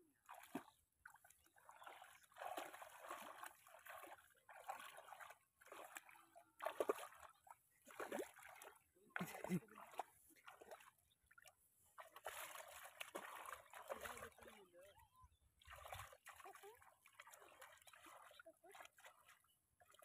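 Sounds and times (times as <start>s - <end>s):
hands splashing in muddy water: 0.2s - 14.6s, 15.6s - 20.0s.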